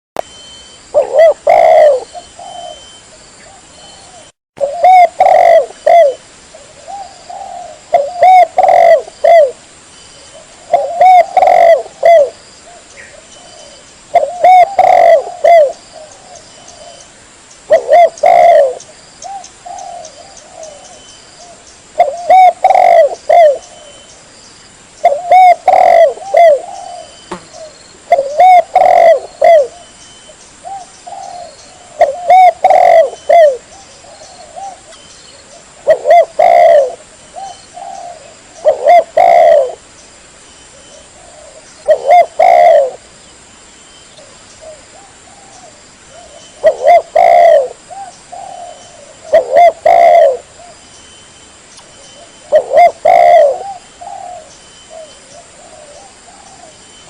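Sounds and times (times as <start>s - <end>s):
dove cooing: 0.9s - 9.6s, 10.2s - 17.1s, 17.7s - 24.1s, 25.0s - 30.0s, 30.6s - 39.8s, 40.7s - 43.0s, 44.2s - 50.8s, 52.2s - 56.8s.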